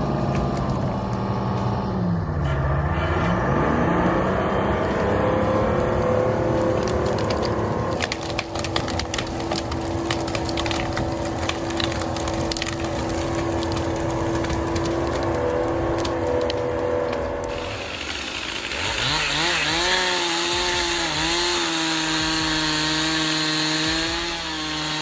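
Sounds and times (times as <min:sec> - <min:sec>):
heavy machine engine running: 0:00.0 - 0:23.0
wood cracking and splintering: 0:00.0 - 0:25.0.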